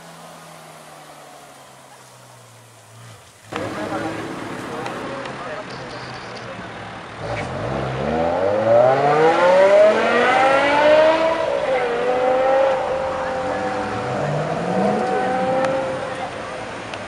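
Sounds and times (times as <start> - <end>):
car engine accelerating hard: 0.0 - 5.6, 6.6 - 17.0
another car engine: 0.0 - 17.0.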